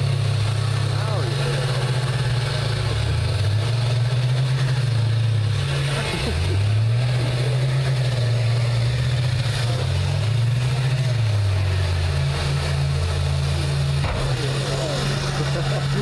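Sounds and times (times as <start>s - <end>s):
bus engines revving: 0.0s - 16.0s
crowd chatter: 0.0s - 16.0s.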